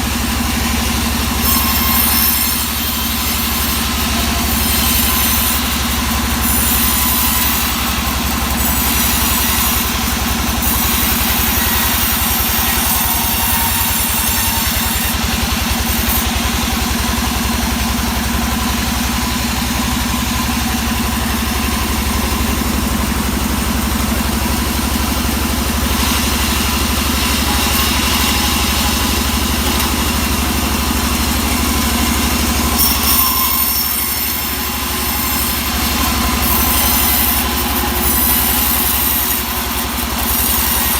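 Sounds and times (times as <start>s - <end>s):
engine-driven saw cutting wood: 0.0s - 40.9s.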